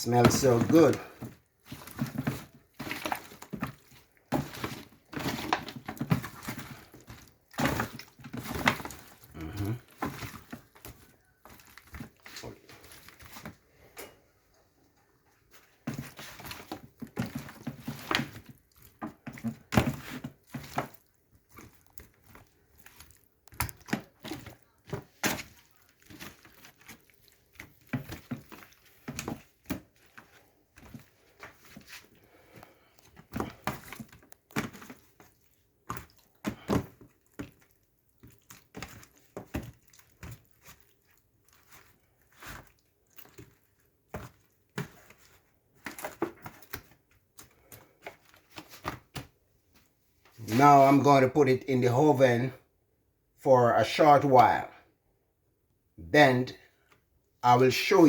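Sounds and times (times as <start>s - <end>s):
hands squishing raw chicken: 0.0s - 14.0s, 14.8s - 51.2s.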